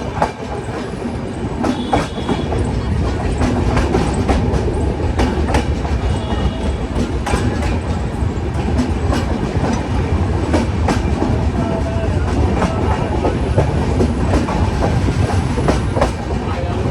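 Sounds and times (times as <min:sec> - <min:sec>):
train rumbling at speed: 0:00.0 - 0:16.9
wheels clattering over rail joints: 0:00.0 - 0:16.9.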